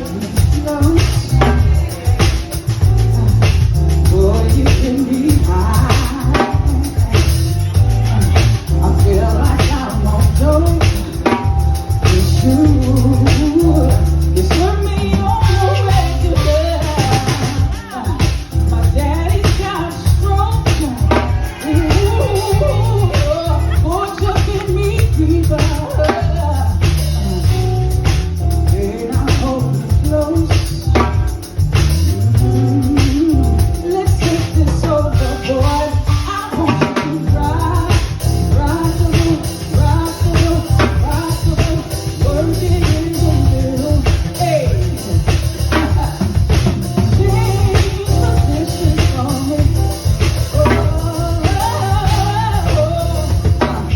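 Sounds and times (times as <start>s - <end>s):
live band playing: 0.0s - 53.9s
woman singing: 0.0s - 53.9s.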